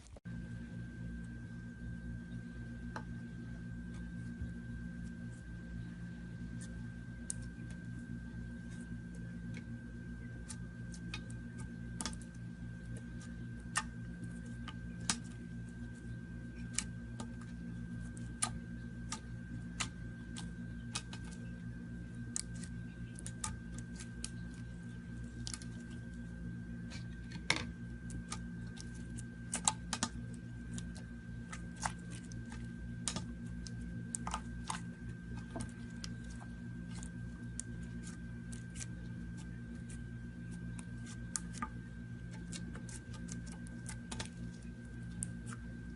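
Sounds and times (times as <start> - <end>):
faint high whine: 0.0 - 45.9
steady low hum: 0.0 - 45.9.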